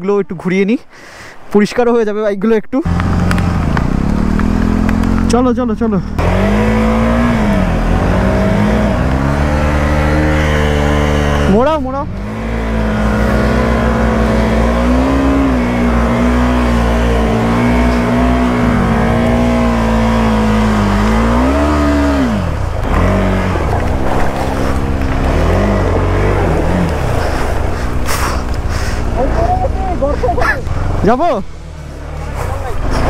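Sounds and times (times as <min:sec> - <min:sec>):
motorcycle engine revving: 0:02.9 - 0:33.0.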